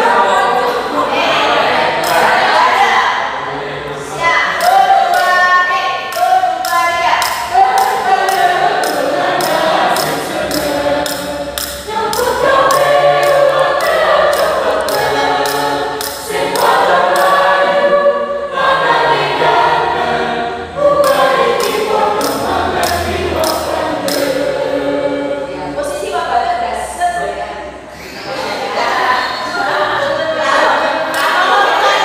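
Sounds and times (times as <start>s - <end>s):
mixed choir singing a cappella: 0.0s - 32.0s.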